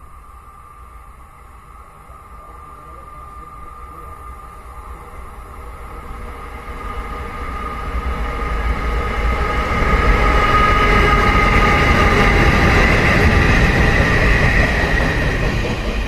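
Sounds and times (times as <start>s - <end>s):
steady high whine: 0.0s - 16.0s
train wheels rumbling on rails: 0.0s - 16.0s.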